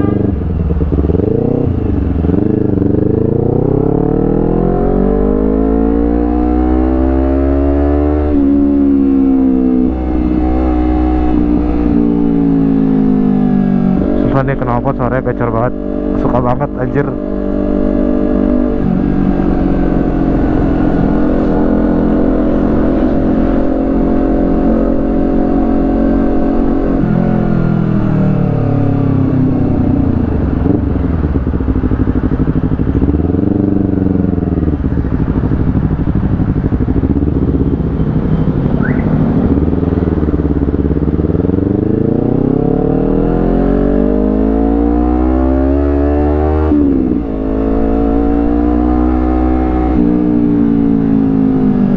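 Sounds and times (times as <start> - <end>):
motorcycle engine while riding: 0.0 - 51.9.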